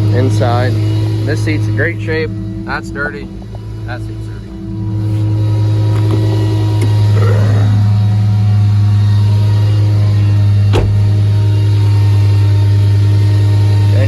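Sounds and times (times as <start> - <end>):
truck engine at raised idle: 0.1 - 14.0.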